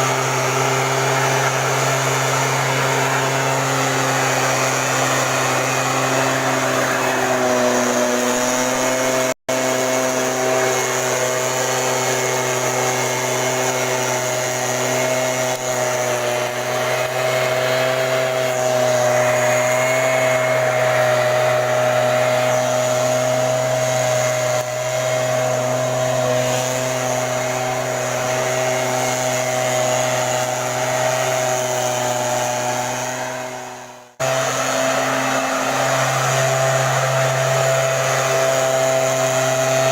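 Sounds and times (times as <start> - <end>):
fan blowing hard: 0.0 - 39.9
mist blower engine running: 0.0 - 39.9.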